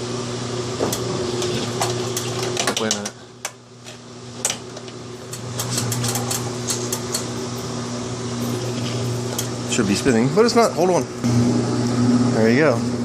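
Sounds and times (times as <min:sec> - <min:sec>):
washing machine buzzing hum: 0:00.0 - 0:13.0.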